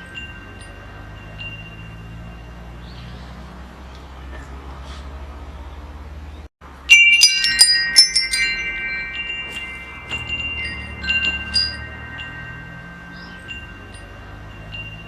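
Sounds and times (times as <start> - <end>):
wind chimes ringing: 0.0 - 3.9, 6.6 - 15.0.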